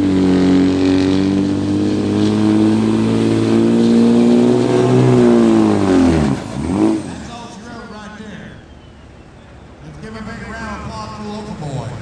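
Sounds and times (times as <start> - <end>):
diesel truck engine at full throttle: 0.0 - 12.0.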